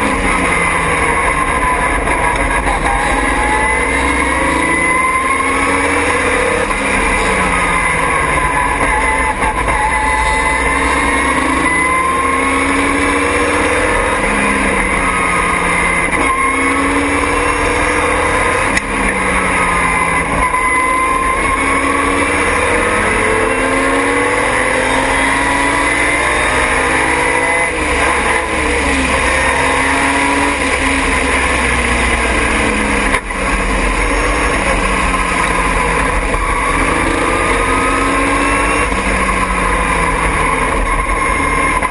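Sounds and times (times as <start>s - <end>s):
racing car engine accelerating: 0.0s - 41.9s.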